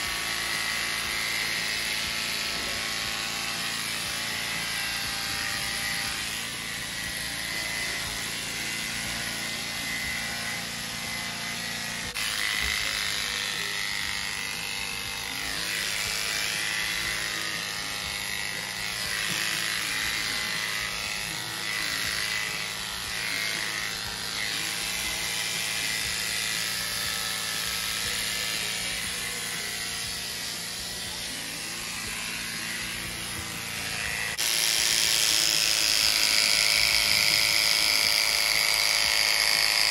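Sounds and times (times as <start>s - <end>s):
electric clippers humming: 0.0s - 39.9s.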